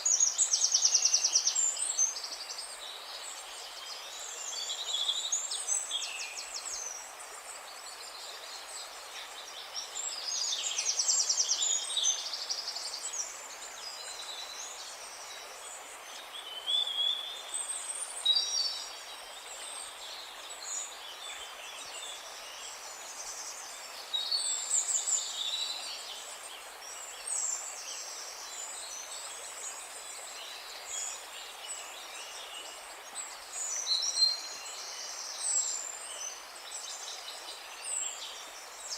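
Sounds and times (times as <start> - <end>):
songbirds singing and chirping: 0.0 - 38.9
steady soft hiss: 0.0 - 38.9.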